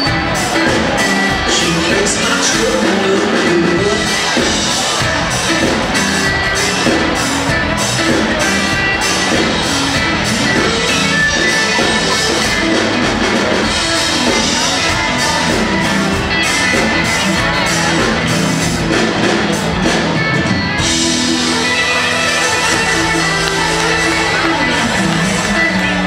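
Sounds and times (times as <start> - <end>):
drum kit hits: 0.0 - 26.0
live country-rock band: 0.0 - 26.0.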